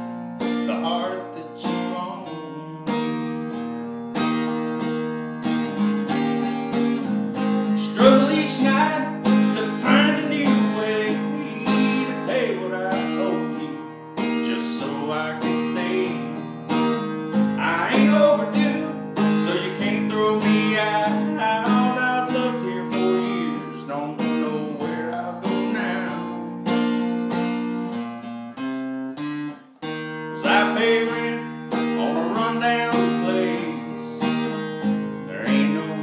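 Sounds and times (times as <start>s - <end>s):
acoustic guitar strumming chords: 0.0s - 36.0s
guitar melody: 0.0s - 36.0s.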